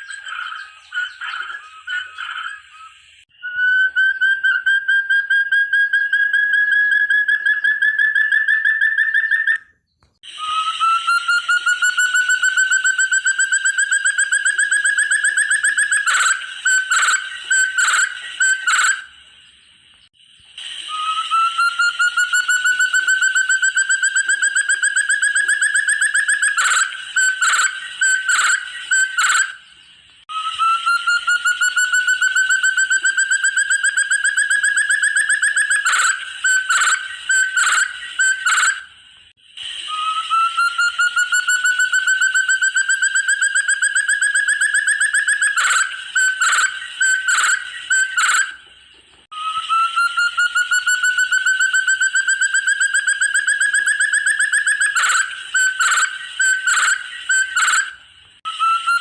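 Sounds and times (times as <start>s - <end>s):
partridge calling: 0.0s - 4.9s, 10.5s - 20.0s, 21.0s - 39.0s, 40.0s - 59.0s.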